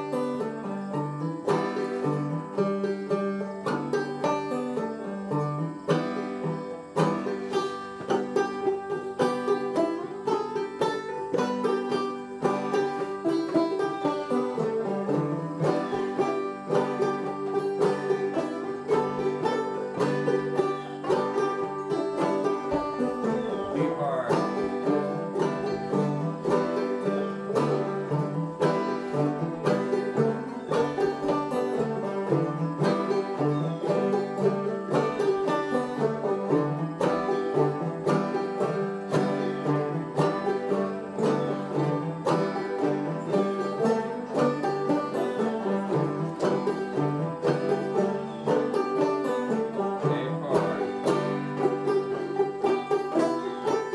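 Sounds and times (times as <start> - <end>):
clawhammer banjos playing: 0.0 - 53.9.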